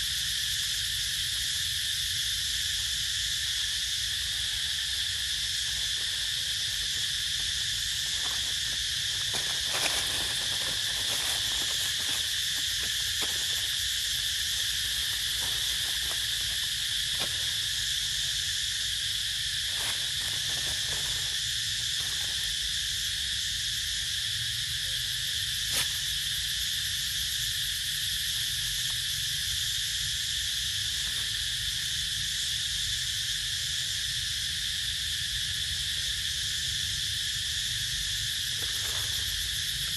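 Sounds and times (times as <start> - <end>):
shrill chorus of forest insects: 0.0 - 39.9.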